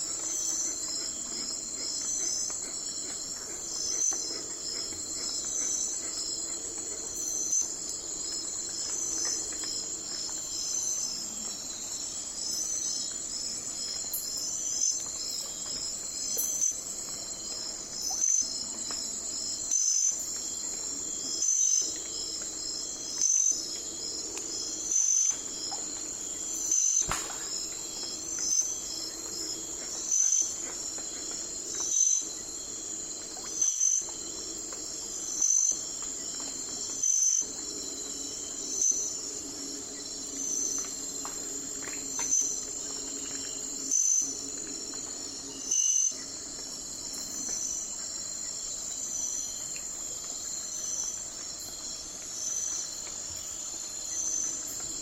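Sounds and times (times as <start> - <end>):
loud insect chirp: 0.0 - 55.0.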